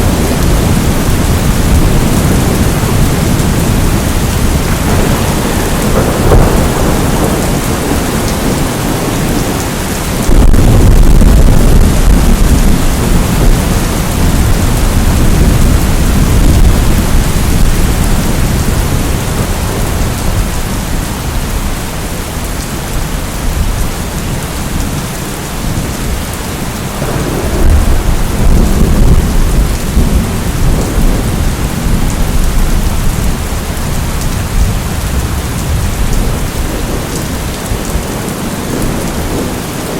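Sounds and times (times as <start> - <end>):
rolling thunder: 0.0 - 21.8, 22.9 - 39.9
heavy rain: 0.0 - 39.9.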